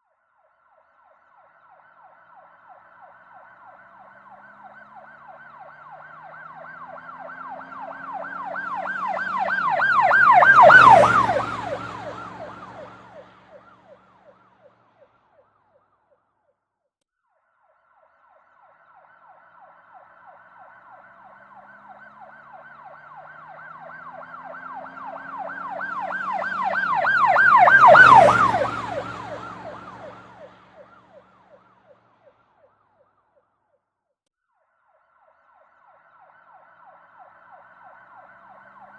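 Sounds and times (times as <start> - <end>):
police siren yelp: 0.5 - 16.2, 18.0 - 33.4, 34.9 - 38.9
vehicle engine and tyre noise: 0.6 - 16.0, 17.8 - 33.2, 35.0 - 38.9.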